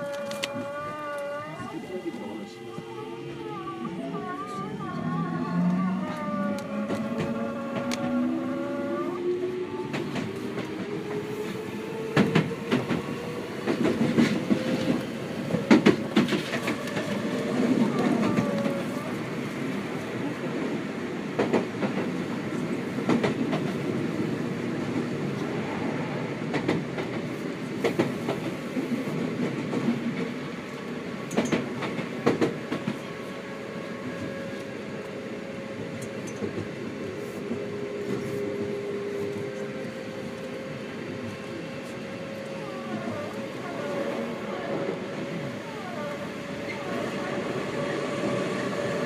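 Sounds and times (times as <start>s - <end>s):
train rolling rumble inside carriage: 0.0s - 49.0s.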